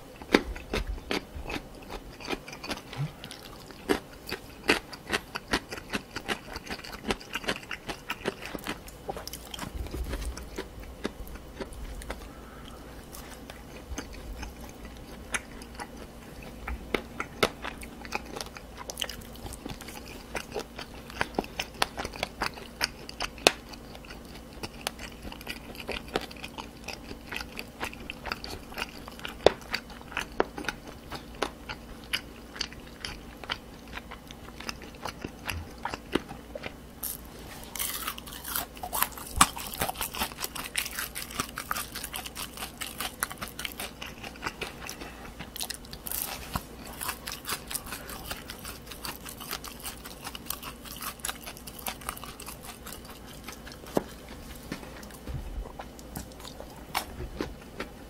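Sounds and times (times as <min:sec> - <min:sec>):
wet crunchy chewing: 0:00.0 - 0:58.0.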